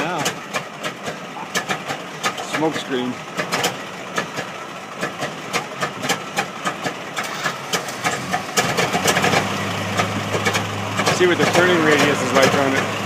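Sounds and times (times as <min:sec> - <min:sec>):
old car engine idling: 0:00.0 - 0:13.0.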